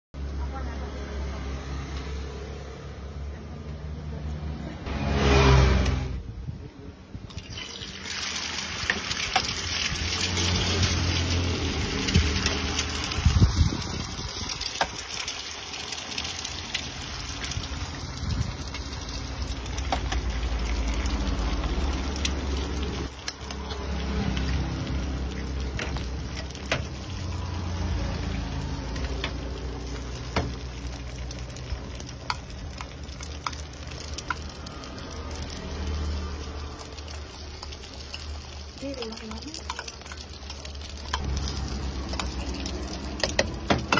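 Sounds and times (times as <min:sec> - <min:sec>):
eggs sizzling in a pan: 0:07.3 - 0:43.9.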